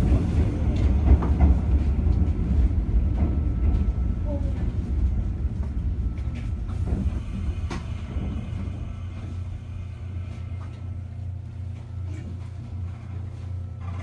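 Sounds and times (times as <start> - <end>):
electric train low hum: 0.0 - 14.0.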